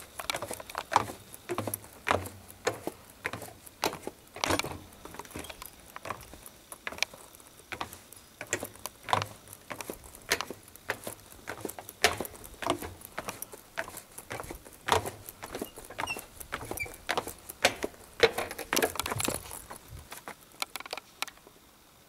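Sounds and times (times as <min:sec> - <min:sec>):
footsteps walking: 0:00.0 - 0:20.6.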